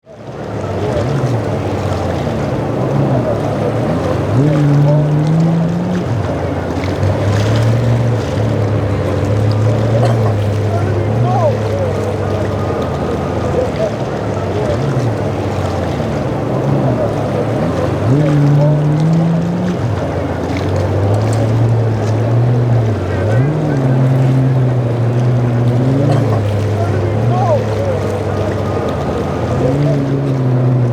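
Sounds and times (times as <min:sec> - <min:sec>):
boat engines running: 0:00.0 - 0:30.9
water noise: 0:00.0 - 0:30.9
waves washing: 0:00.0 - 0:30.9
wind: 0:00.0 - 0:30.9.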